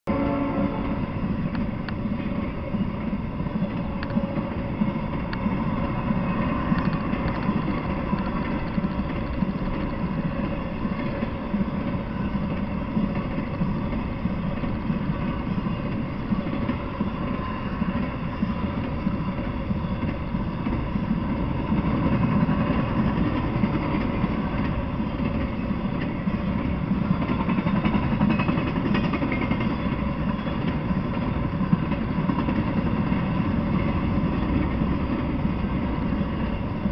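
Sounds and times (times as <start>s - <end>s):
freight train wheels rumbling: 0.1s - 36.9s.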